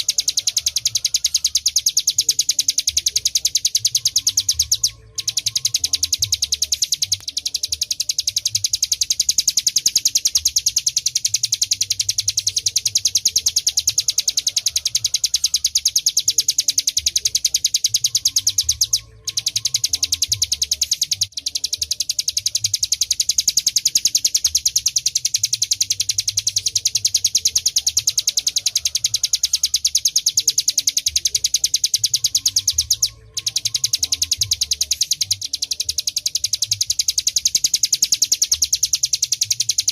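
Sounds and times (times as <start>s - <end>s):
bird high-pitched trill: 0.0s - 39.9s.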